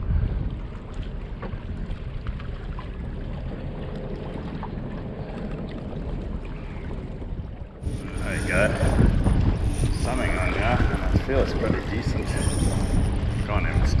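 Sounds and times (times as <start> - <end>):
water lapping: 0.0 - 14.0
wind rumbling on microphone: 0.0 - 14.0.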